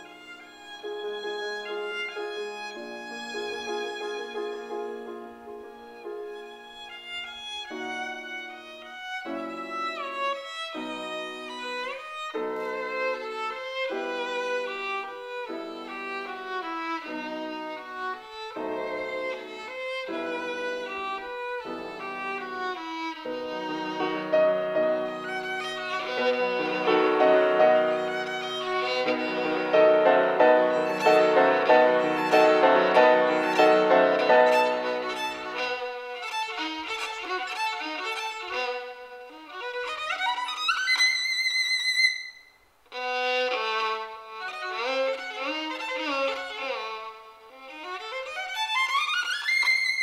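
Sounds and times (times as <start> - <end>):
piano accompaniment: 0.0 - 40.2
violin playing: 0.0 - 50.0.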